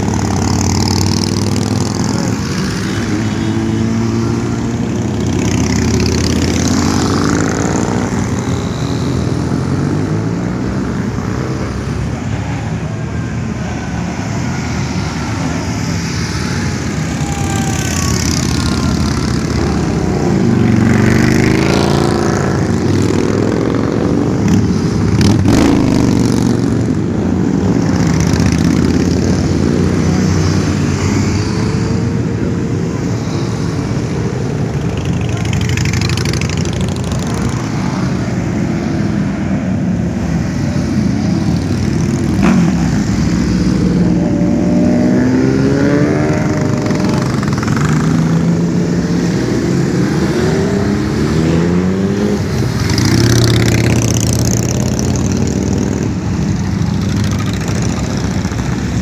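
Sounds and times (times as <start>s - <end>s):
motorcycles riding past: 0.0s - 59.0s.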